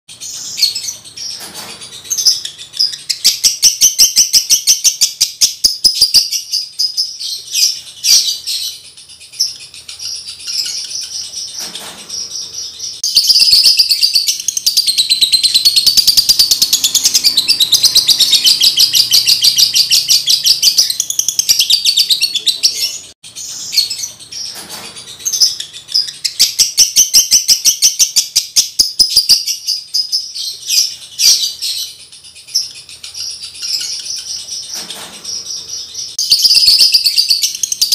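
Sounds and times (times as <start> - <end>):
bird chattering chirps: 0.1 - 37.9.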